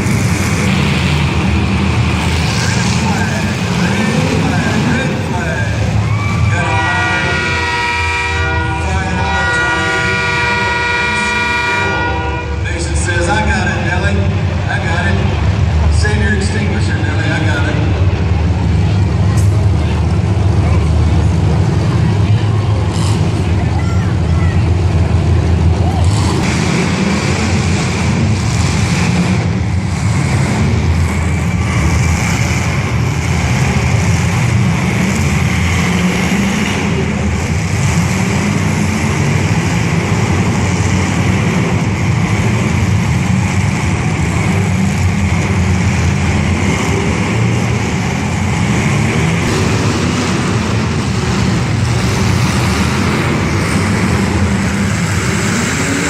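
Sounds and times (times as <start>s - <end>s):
car engines droning: 0.0s - 56.0s.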